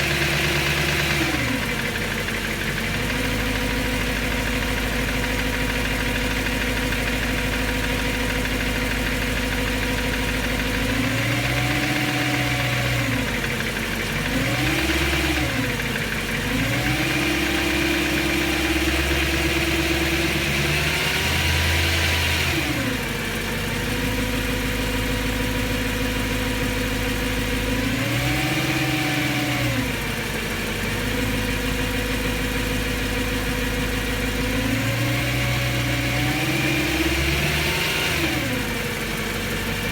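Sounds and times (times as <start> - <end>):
car engine idling and revving: 0.0 - 39.9
engine ticking: 0.0 - 39.9.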